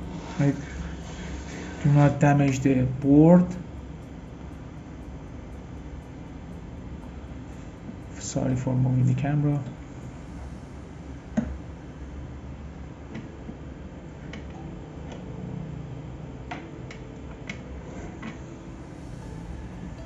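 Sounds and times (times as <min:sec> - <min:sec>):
hot-air blower hum and hiss: 0:00.0 - 0:20.0.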